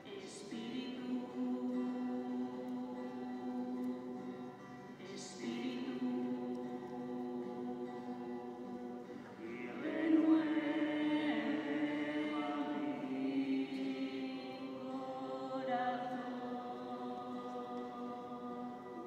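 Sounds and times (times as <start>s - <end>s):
voices singing a slow hymn: 0.0s - 19.0s.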